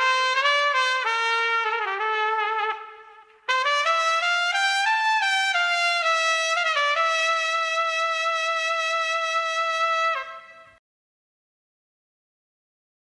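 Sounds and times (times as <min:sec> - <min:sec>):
solo trumpet melody: 0:00.0 - 0:10.8.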